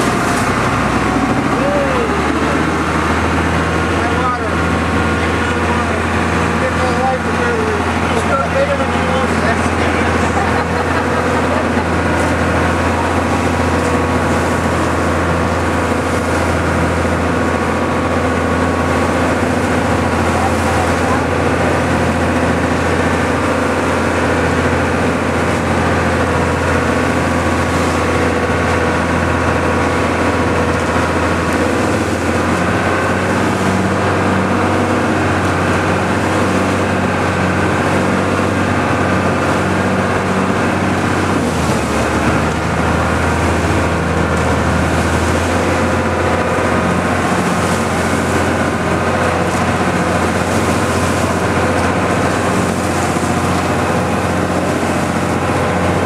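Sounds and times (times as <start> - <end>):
boat engine running: 0.0 - 56.0
wind: 0.0 - 56.0.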